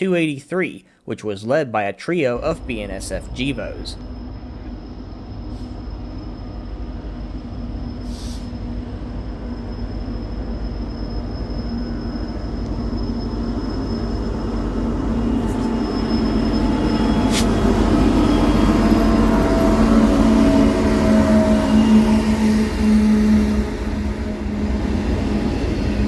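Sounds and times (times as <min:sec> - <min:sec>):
diesel locomotive engine rumble: 0:02.4 - 0:26.0.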